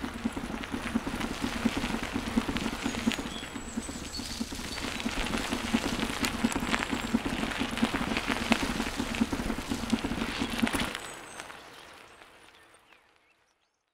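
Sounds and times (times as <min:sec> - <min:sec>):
bicycle tyres on wooden boardwalk: 0:00.0 - 0:13.2.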